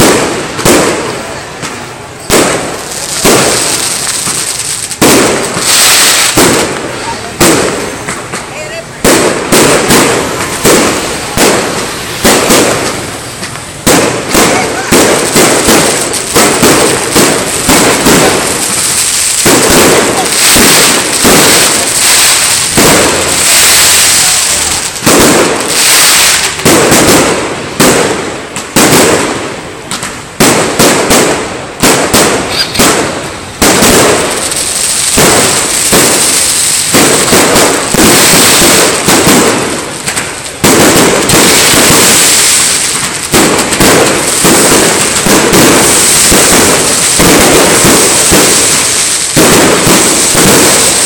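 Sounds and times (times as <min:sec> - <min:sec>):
fireworks cracking and banging: 0:00.0 - 0:51.0.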